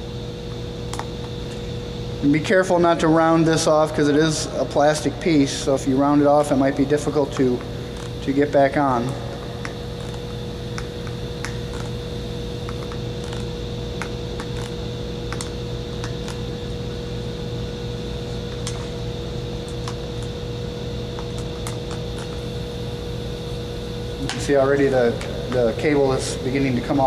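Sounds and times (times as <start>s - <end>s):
steady fan hum: 0.0s - 27.0s.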